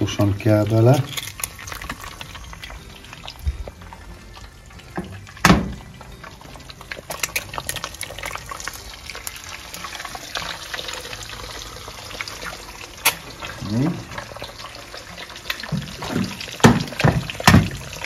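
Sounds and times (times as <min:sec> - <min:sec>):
eggs sizzling in oil: 0:00.0 - 0:18.0.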